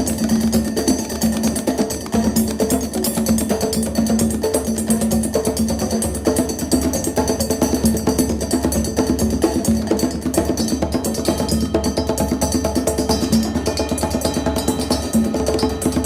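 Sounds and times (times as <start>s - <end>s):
fast percussion strikes: 0.0s - 16.0s.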